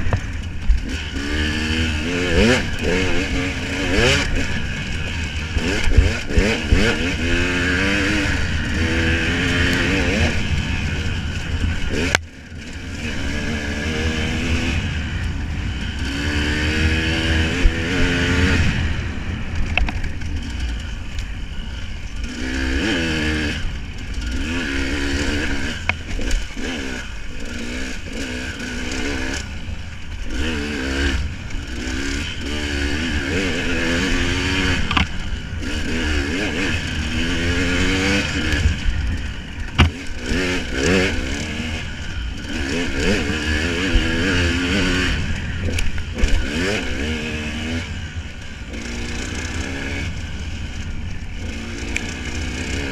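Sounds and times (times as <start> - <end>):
vehicle engine revving: 0.0 - 21.3, 22.1 - 52.9.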